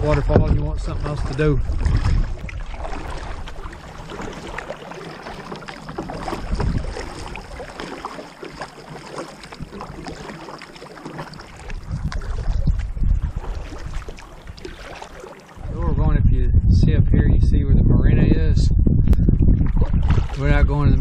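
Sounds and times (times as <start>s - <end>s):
wind rumble on microphone: 0.0s - 8.0s, 9.4s - 10.4s, 11.3s - 21.0s
paddle splashing water: 0.0s - 15.8s, 19.6s - 20.6s
water lapping along hull: 0.0s - 16.2s, 19.0s - 21.0s.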